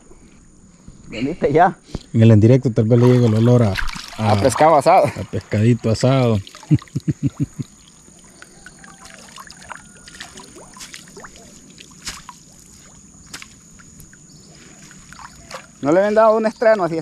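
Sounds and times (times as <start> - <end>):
water splashing and trickling: 2.8 - 16.5.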